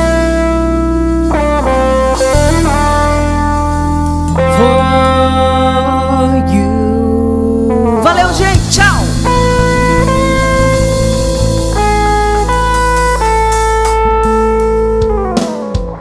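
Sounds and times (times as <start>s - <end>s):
steady low bass: 0.0s - 15.4s
electric guitar long held notes: 0.0s - 16.0s.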